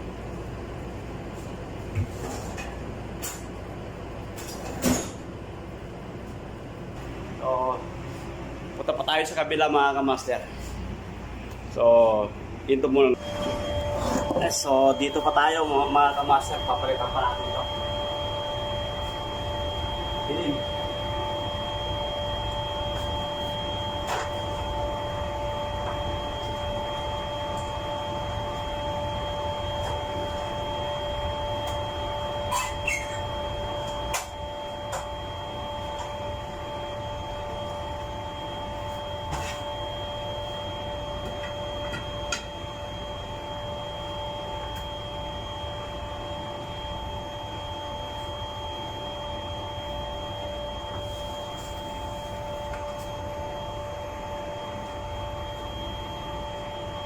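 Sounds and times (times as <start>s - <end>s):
machinery hum with low rumble: 0.0s - 57.0s.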